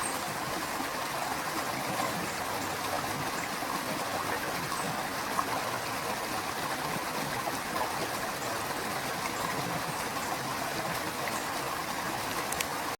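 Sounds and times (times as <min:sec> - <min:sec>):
river water rushing: 0:00.0 - 0:12.9
small waterfall splashing: 0:00.0 - 0:12.9.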